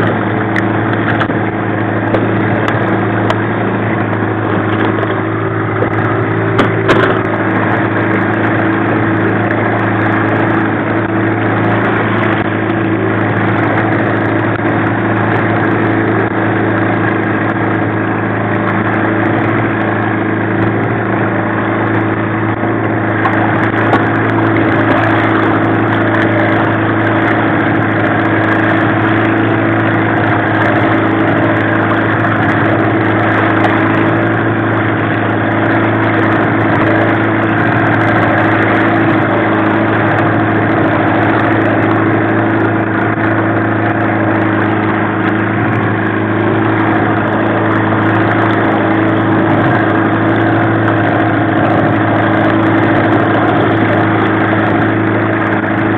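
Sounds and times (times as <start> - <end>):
outboard motor droning: 0.0 - 55.9.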